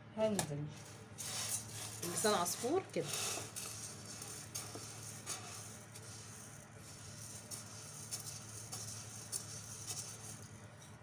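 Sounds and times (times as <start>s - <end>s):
low steady hum: 0.0s - 11.0s
dry pasta grains rattling: 0.7s - 11.0s.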